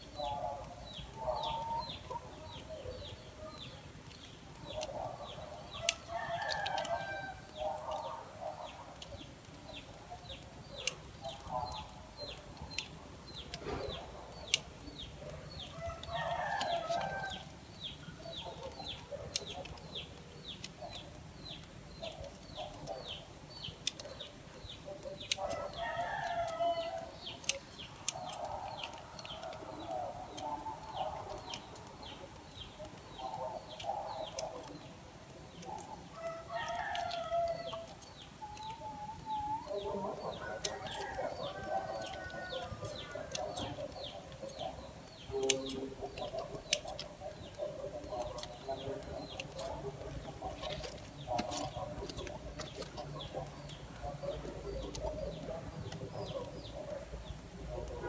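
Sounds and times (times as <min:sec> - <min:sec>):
chickens clucking: 0:00.0 - 0:58.0
pruning shears snipping twigs: 0:00.2 - 0:58.0.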